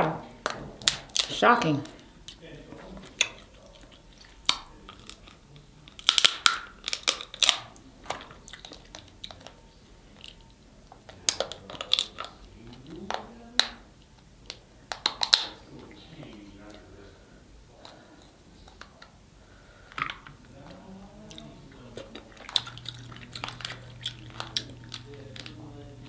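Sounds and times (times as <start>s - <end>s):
crab shells cracking: 0.4s - 15.6s, 19.8s - 26.0s.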